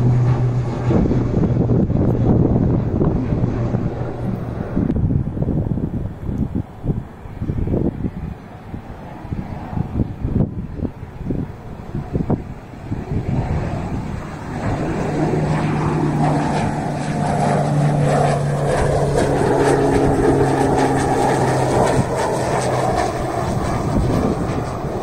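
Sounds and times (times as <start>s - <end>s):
propeller plane passing low: 0.0s - 25.0s.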